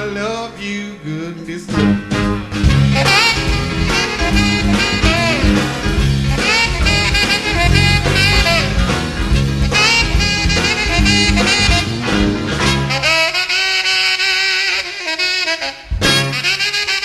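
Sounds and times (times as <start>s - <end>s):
saxophone-led rhythm and blues band: 0.0s - 17.0s.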